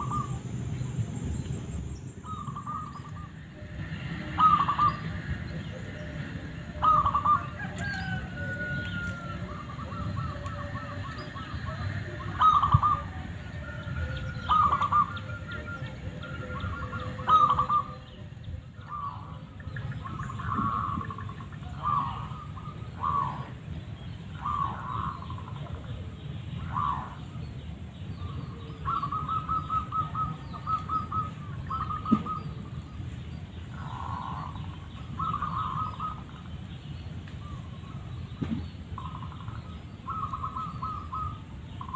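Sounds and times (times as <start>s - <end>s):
dove cooing and trilling: 0.0s - 0.5s, 2.2s - 27.5s, 28.2s - 33.0s, 33.7s - 36.6s, 39.0s - 41.9s.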